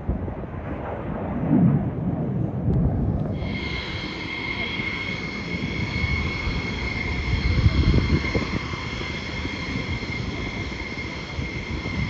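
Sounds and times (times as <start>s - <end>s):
jet engines whining and rumbling: 0.0s - 12.0s.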